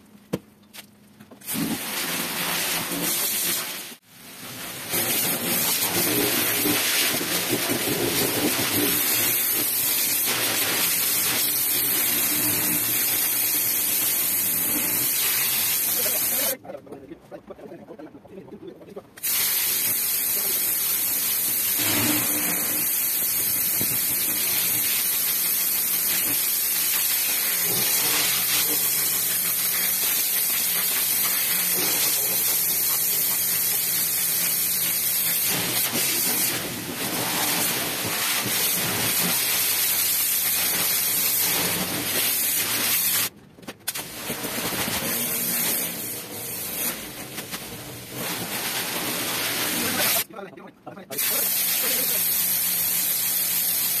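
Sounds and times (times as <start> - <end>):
pressure washer spraying water: 1.4 - 16.6, 19.2 - 43.3, 43.9 - 50.3, 51.1 - 54.0.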